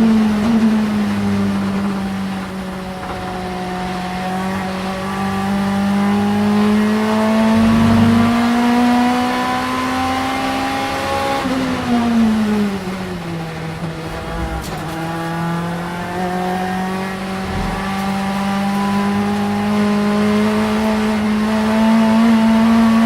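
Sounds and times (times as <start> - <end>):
race car engine under load: 0.0 - 23.0.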